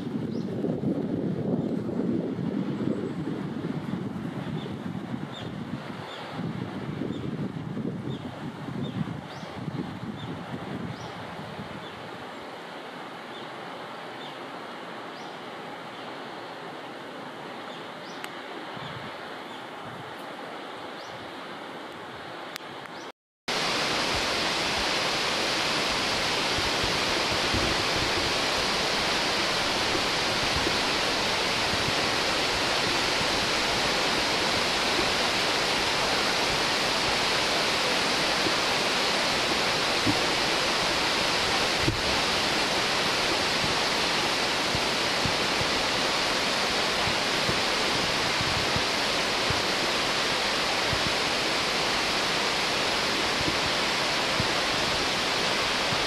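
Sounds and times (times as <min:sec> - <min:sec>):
waterfall rushing: 0:03.3 - 0:56.0.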